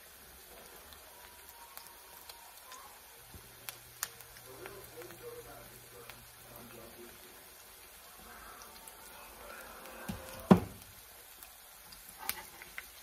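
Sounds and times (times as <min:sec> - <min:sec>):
oil frying faintly: 0:00.0 - 0:13.0.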